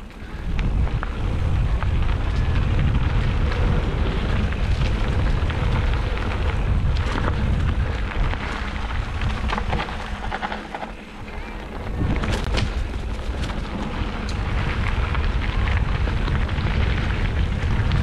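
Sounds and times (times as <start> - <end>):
mountain bike rolling over rock: 0.0 - 18.0
rattling clicks from bike: 0.0 - 18.0.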